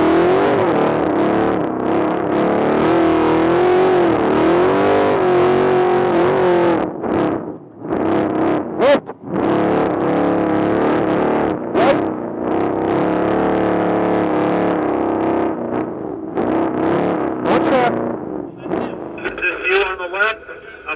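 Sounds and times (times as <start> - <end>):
truck engine revving hard: 0.0 - 20.9.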